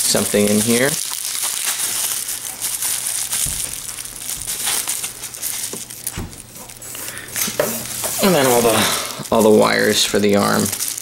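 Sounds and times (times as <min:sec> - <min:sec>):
bubble wrap and plastic rustling: 0:00.0 - 0:11.0.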